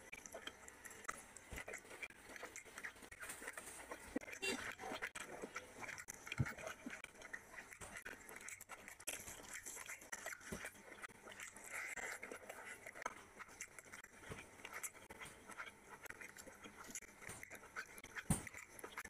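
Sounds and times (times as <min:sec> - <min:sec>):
man chewing and lip smacking: 0:00.0 - 0:19.0
wet squelching of food: 0:00.0 - 0:19.0.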